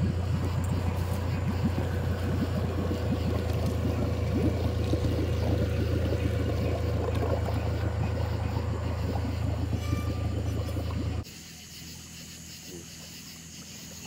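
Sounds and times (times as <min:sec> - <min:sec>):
boat motor drone: 0:00.0 - 0:11.3
water gurgling and splashing: 0:00.0 - 0:11.3.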